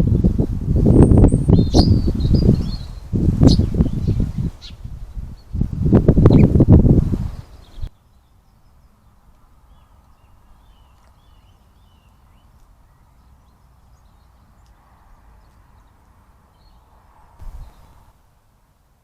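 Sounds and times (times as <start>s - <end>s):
outdoor background noise: 0.0s - 19.0s
small bird chirping: 1.0s - 5.6s, 7.3s - 18.1s.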